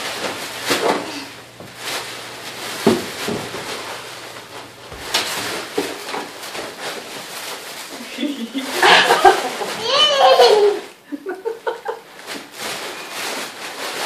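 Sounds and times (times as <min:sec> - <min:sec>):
bubble wrap crumpling and crackling: 0:00.0 - 0:10.9, 0:11.9 - 0:14.0.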